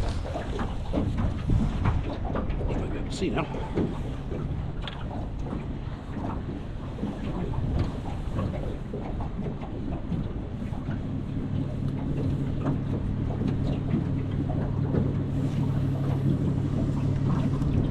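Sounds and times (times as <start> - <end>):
boat engine hum: 0.0 - 17.9
water rushing: 0.0 - 17.9.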